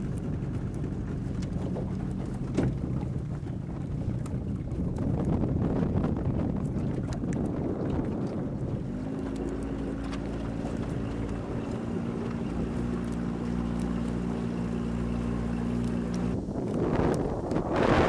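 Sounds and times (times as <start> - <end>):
outboard motor running: 0.0 - 18.0
wind buffeting microphone: 0.0 - 18.0.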